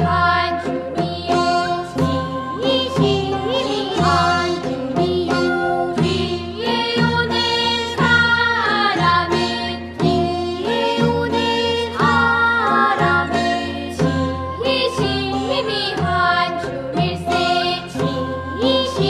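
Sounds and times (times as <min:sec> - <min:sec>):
children singing folk song: 0:00.0 - 0:19.0
instrumental accompaniment with steady beat: 0:00.0 - 0:19.0.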